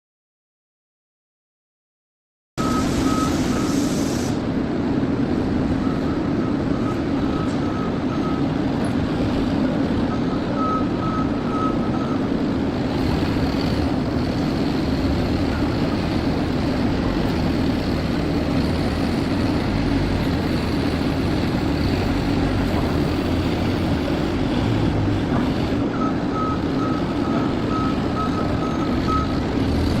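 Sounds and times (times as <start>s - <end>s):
forklift reversing alarm beeping: 2.6s - 3.9s, 5.7s - 8.8s, 10.0s - 30.0s
industrial machinery rumble: 2.6s - 30.0s.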